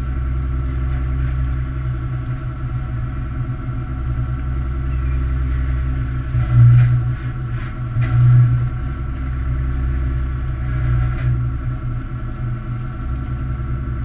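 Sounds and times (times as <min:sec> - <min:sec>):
boat machinery droning: 0:00.0 - 0:14.0.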